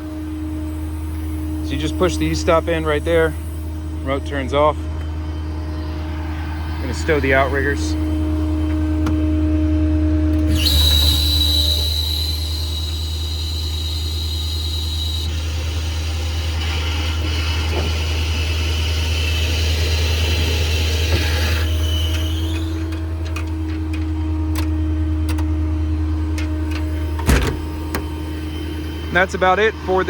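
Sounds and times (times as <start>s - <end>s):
diesel truck engine humming: 0.0s - 30.0s
hydraulic system whining: 0.0s - 30.0s.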